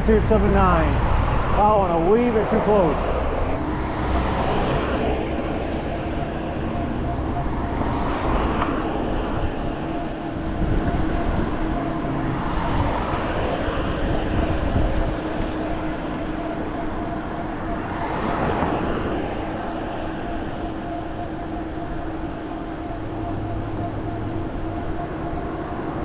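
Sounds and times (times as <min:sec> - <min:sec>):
car road and tyre noise: 0:00.0 - 0:26.0
passing traffic: 0:00.0 - 0:26.0.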